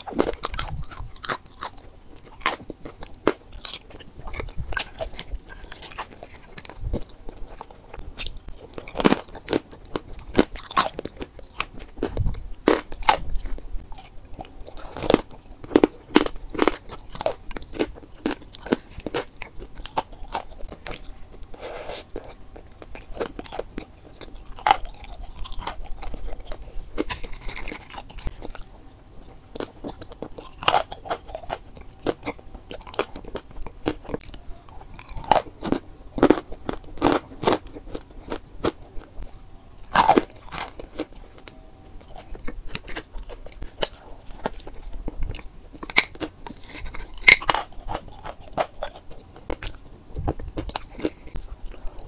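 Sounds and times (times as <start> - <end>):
chewing: 0.0 - 52.0.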